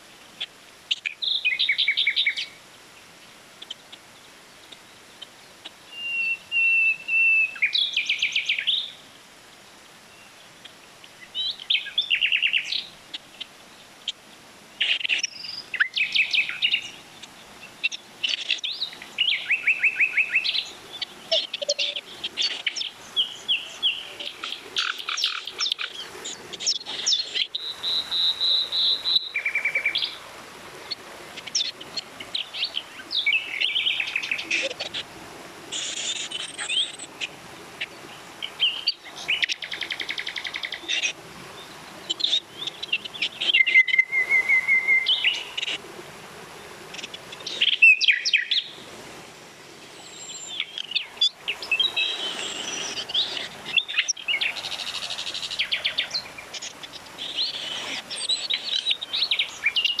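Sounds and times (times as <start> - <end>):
flowing water rushing: 0.0 - 60.0
songbirds chirping and trilling: 0.0 - 60.0.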